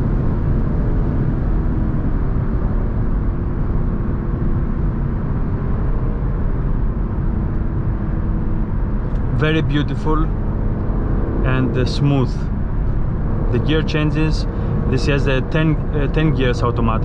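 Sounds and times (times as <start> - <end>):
car engine running steadily: 0.0 - 17.0
road and wind noise: 0.0 - 17.0.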